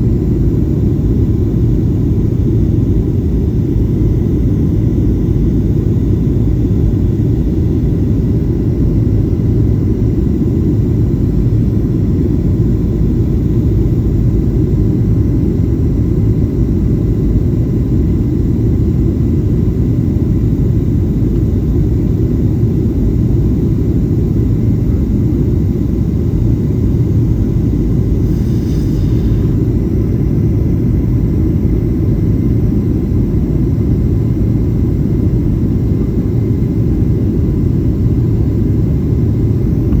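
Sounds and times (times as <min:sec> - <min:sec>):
airplane cabin engine rumble: 0:00.0 - 0:40.0
faint steady whine: 0:00.0 - 0:40.0.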